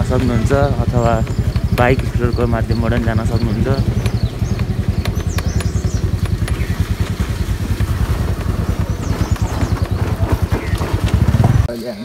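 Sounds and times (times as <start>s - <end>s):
motorbike engine running: 0.0s - 11.7s.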